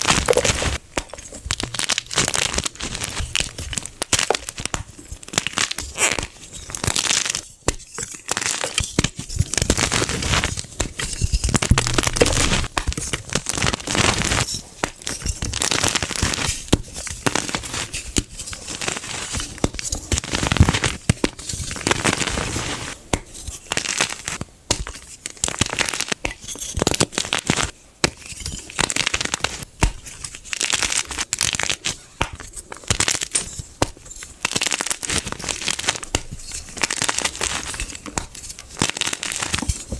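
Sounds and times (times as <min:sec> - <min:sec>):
chalk blocks being crushed: 0:00.0 - 0:22.9, 0:23.7 - 0:39.9.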